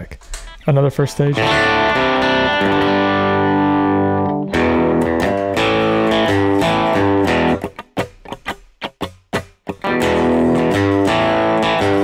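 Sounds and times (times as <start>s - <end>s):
electric guitar chords: 1.0s - 12.0s.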